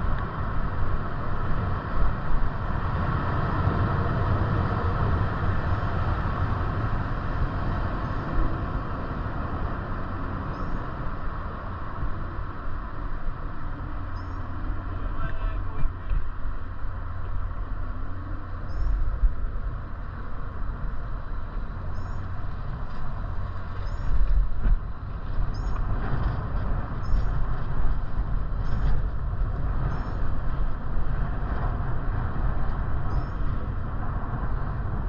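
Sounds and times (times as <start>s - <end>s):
bike road noise: 0.0s - 35.0s
wind noise on microphone: 0.0s - 35.0s.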